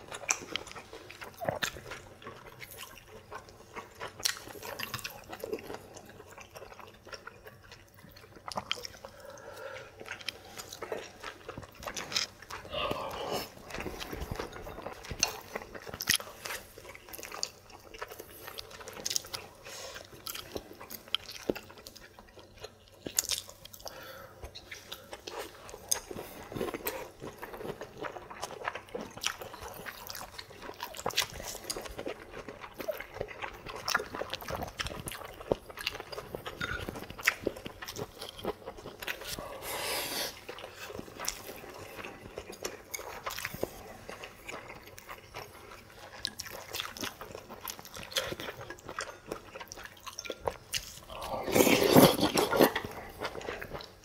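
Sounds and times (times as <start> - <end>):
people chewing food: 0.0 - 54.0.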